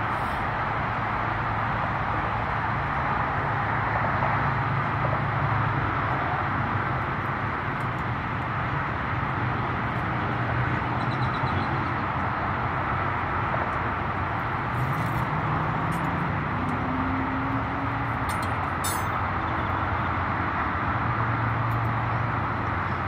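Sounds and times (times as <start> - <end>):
constant outdoor rush: 0.0 - 23.0.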